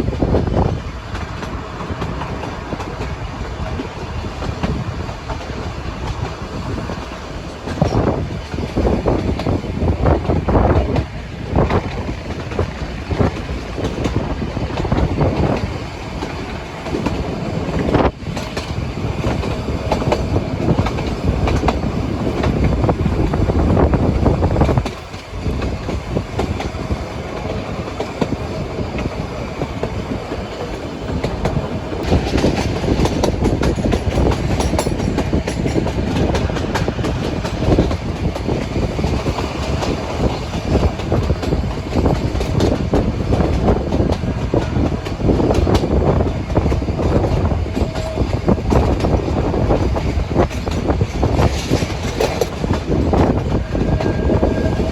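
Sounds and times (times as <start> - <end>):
train rumbling along track: 0.0 - 54.9.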